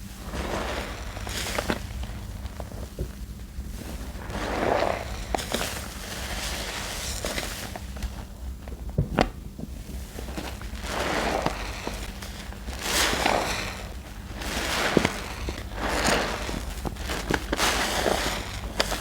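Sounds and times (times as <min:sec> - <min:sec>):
wet paste swishing: 0:00.0 - 0:07.8, 0:10.2 - 0:19.0.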